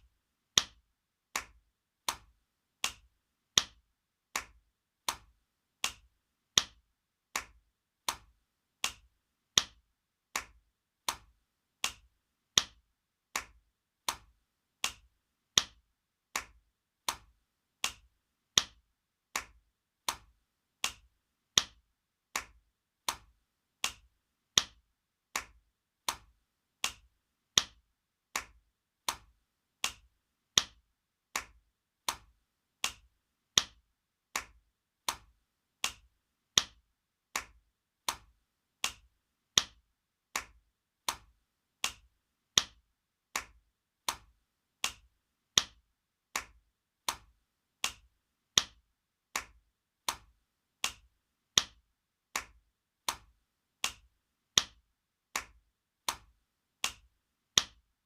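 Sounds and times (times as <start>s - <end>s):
hand slapping skin: 0.6s - 57.8s.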